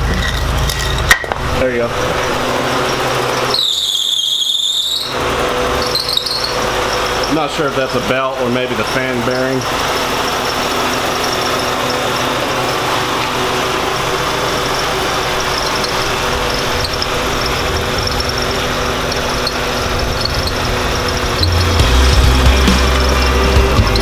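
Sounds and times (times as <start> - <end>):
car engine running: 0.0 - 24.0
thin steady whine: 0.0 - 24.0.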